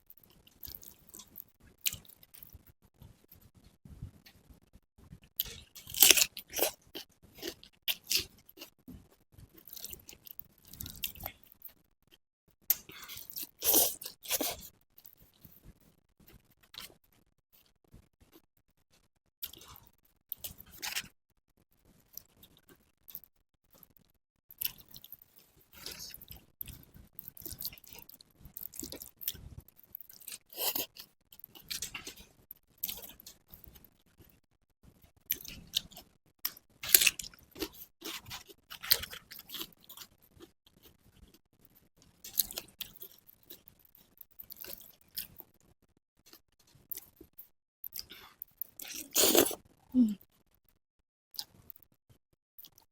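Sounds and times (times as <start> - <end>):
person chewing food: 0.2 - 4.4, 5.3 - 11.8, 12.7 - 15.4, 16.2 - 18.4, 19.0 - 21.1, 24.5 - 34.4, 35.0 - 45.7, 46.3 - 50.5, 51.4 - 51.9, 52.6 - 52.9.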